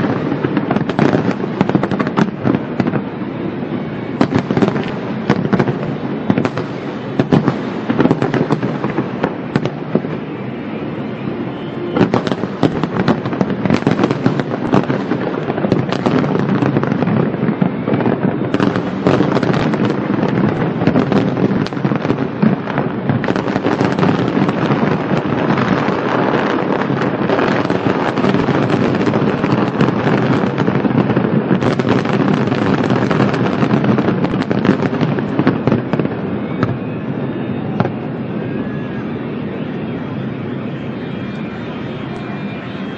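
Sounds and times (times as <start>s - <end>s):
fireworks crackling bangs: 0.0s - 42.9s.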